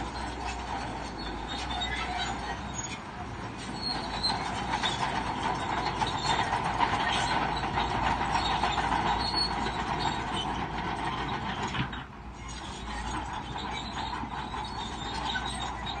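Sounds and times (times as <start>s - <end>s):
diesel engine running: 0.0s - 16.0s
steel tracks squealing and clanking: 0.0s - 16.0s.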